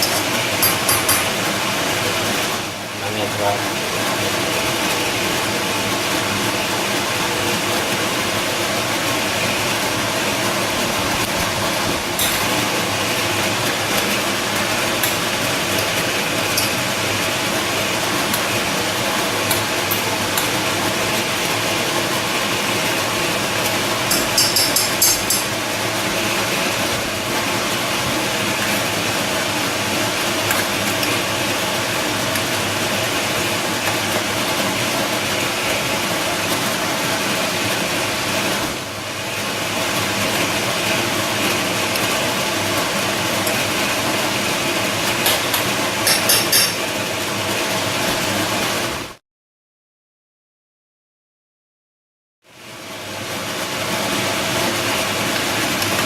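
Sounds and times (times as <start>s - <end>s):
machine hum and hiss: 0.0s - 49.2s, 52.5s - 56.0s.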